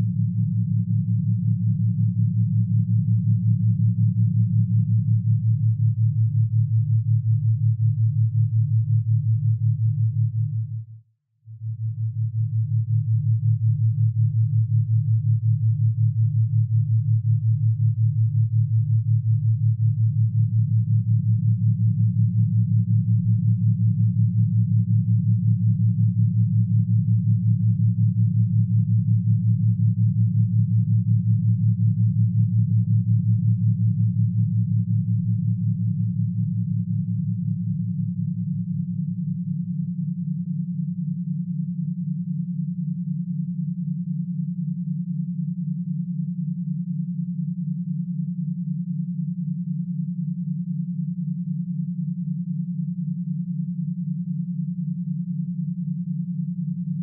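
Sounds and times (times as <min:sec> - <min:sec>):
higher sine tone: 0:00.0 - 0:10.9, 0:11.5 - 0:57.0
low pulsing sine tone: 0:00.0 - 0:57.0.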